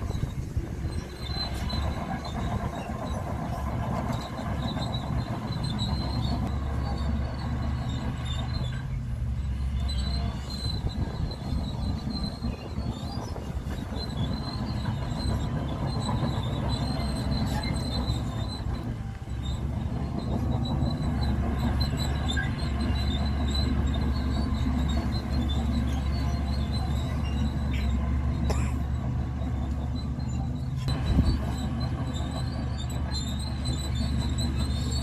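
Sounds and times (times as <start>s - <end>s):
crawler tracks squealing and clattering: 0.0s - 35.0s
diesel engine under load: 0.0s - 35.0s.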